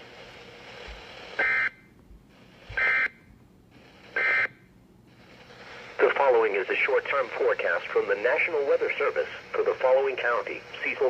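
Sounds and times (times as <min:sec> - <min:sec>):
faint radio hiss: 0:00.0 - 0:11.0.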